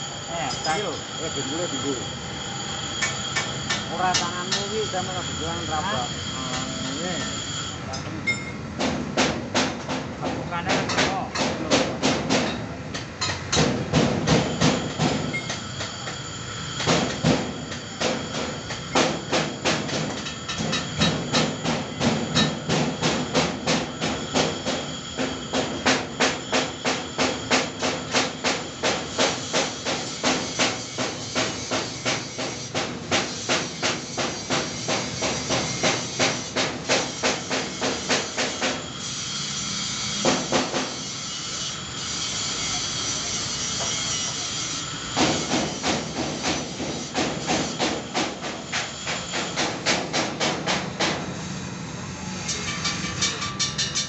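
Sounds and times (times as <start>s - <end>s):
metal being hammered: 0.0s - 51.4s, 52.4s - 54.0s.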